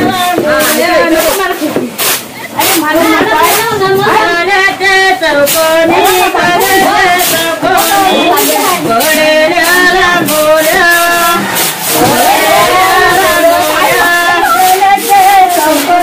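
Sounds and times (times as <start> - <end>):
women singing: 0.0 - 16.0.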